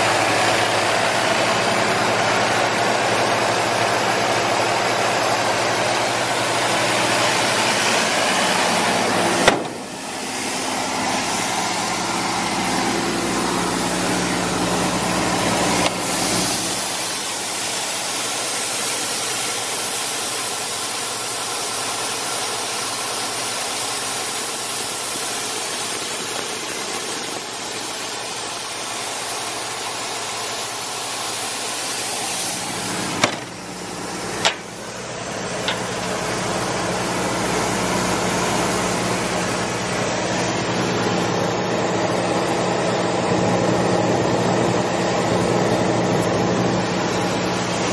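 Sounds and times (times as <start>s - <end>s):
air compressor diesel engine running: 0.0s - 47.9s.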